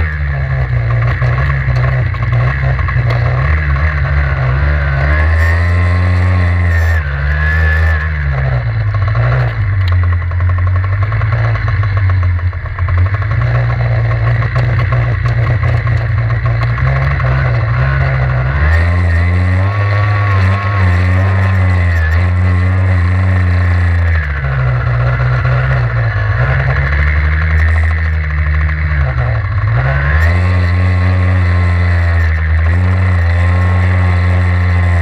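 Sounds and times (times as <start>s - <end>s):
two-stroke motorcycle engine: 0.0s - 35.0s.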